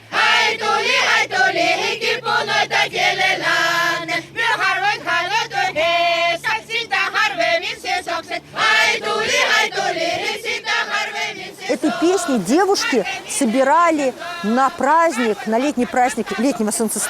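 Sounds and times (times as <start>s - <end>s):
folk vocal group singing: 0.0s - 17.0s.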